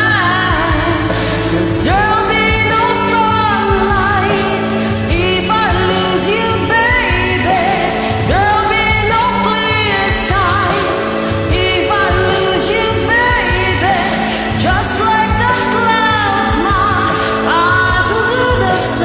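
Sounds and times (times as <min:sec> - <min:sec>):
instrumental backing: 0:00.0 - 0:19.0
person singing pop melody: 0:00.0 - 0:19.0.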